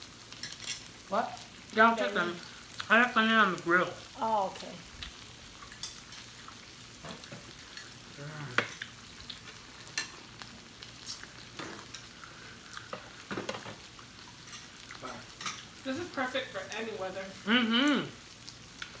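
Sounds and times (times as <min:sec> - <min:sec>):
food sizzling on a grill: 0:00.0 - 0:19.0.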